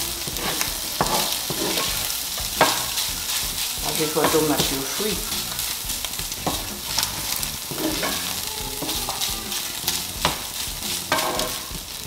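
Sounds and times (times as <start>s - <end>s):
fish sizzling in oil: 0.0s - 12.0s
wooden spoon scraping pan: 0.0s - 12.0s
spoon knocking against pan: 0.2s - 12.0s.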